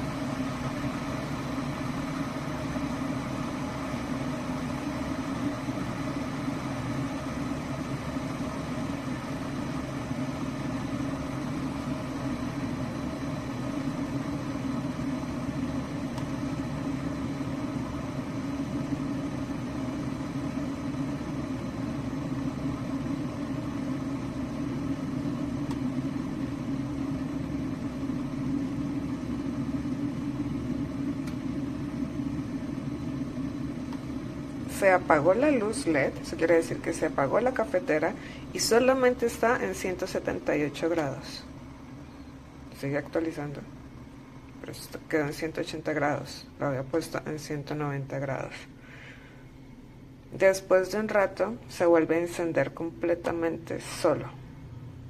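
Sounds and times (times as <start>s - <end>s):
electric kettle heating water: 0.0s - 55.0s.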